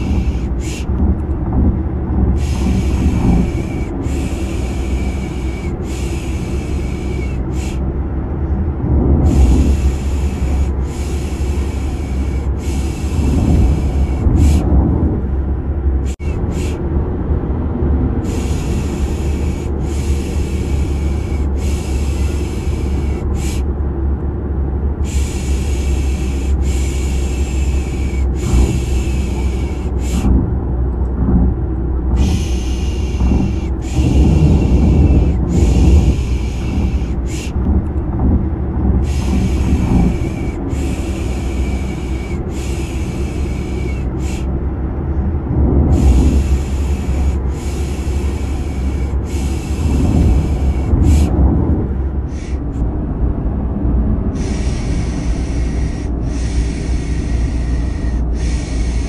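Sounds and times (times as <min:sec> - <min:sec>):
car interior rumble: 0:00.0 - 0:59.0.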